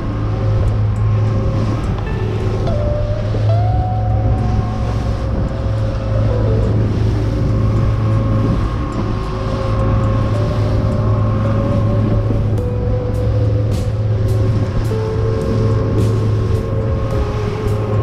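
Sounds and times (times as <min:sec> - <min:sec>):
boat engine running: 0:00.0 - 0:18.0
water rushing along hull: 0:00.0 - 0:18.0.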